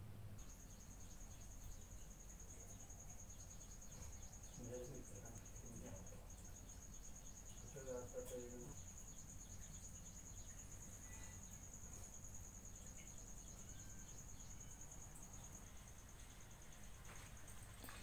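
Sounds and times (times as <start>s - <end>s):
cricket trilling: 0.2s - 18.0s.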